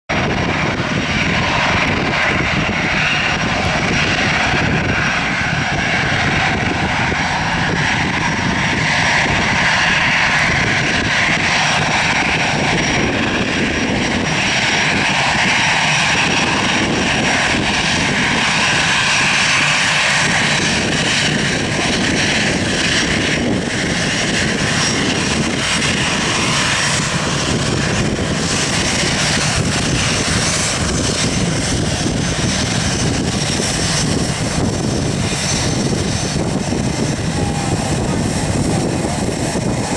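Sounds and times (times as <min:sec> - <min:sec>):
jet engines at taxi power: 0:00.1 - 0:39.9.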